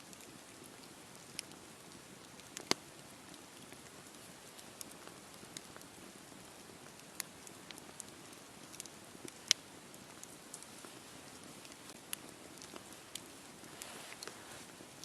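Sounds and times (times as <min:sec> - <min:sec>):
campfire hissing: 0:00.0 - 0:15.0
fire crackles and pops: 0:00.0 - 0:15.0.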